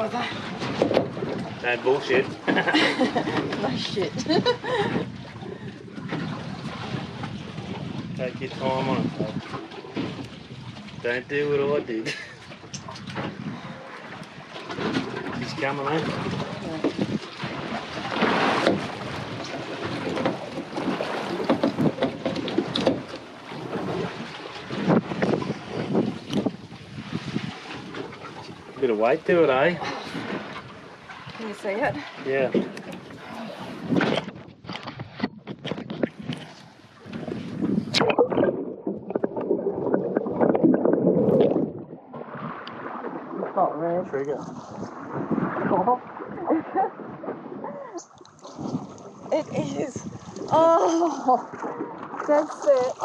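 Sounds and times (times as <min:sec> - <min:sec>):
water noise: 0:00.0 - 0:53.0
wind: 0:00.0 - 0:53.0.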